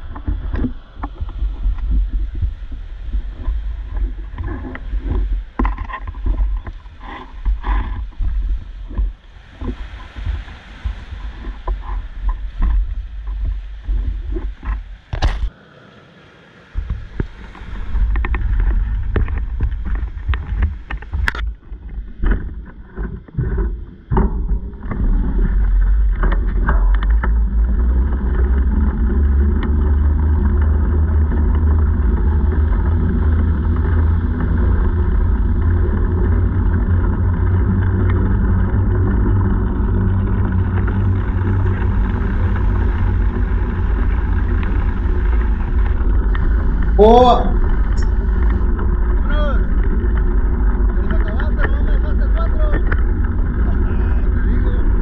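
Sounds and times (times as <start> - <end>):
knocks and rattles of bicycle gear: 0.0 - 15.5, 16.8 - 47.0, 47.6 - 53.8
bicycle tyres rolling on wet sand: 0.0 - 55.0
wind on microphone: 0.0 - 55.0.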